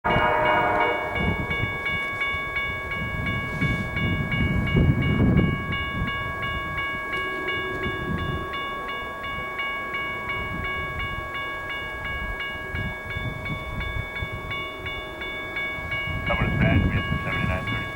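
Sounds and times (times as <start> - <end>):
railroad crossing bell ringing: 0.0 - 17.9.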